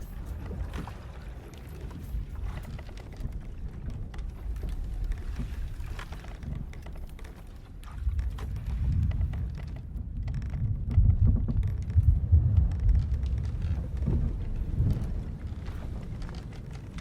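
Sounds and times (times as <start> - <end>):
deep rumble of sea and wind: 0.0 - 17.0
wooden ship creaking: 0.0 - 17.0.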